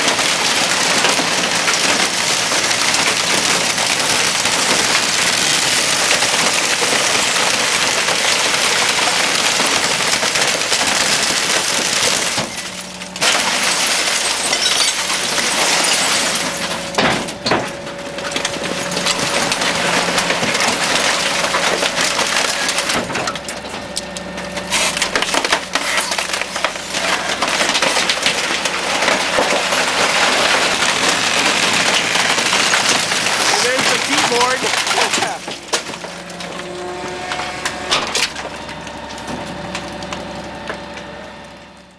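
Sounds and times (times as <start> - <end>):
glass breaking: 0.0 - 23.4, 24.7 - 36.5
wood splintering: 0.0 - 41.6
garbage compactor crushing trash: 0.0 - 41.9.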